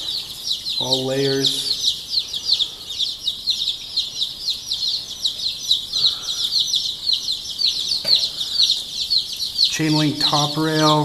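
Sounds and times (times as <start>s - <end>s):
young chicks peeping: 0.0s - 11.0s.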